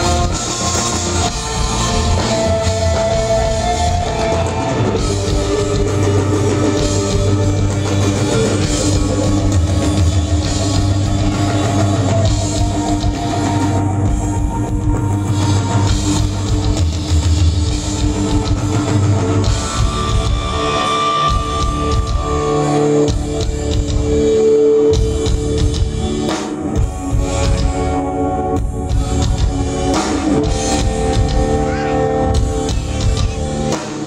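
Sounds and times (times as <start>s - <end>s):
rock band playing live: 0.0s - 34.0s.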